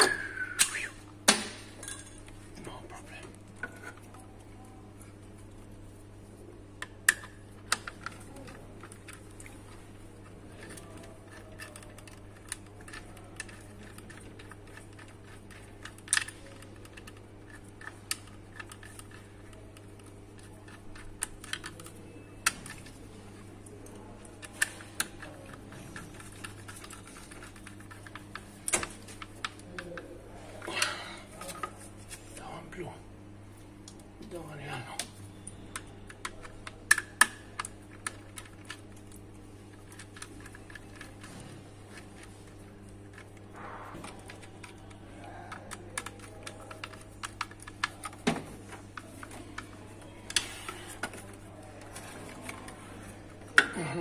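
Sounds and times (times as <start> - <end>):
steady low hum: 0.0 - 54.0
cables being handled: 2.2 - 32.4, 33.2 - 53.9.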